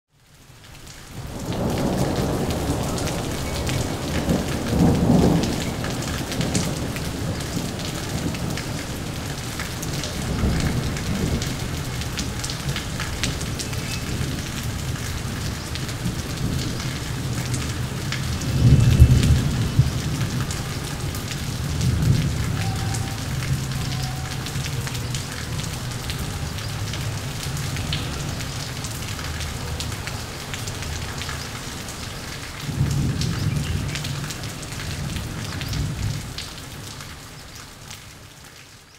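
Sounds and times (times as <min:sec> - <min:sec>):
steady rain falling: 0:00.1 - 0:38.9
thunder rumbling: 0:01.2 - 0:36.8.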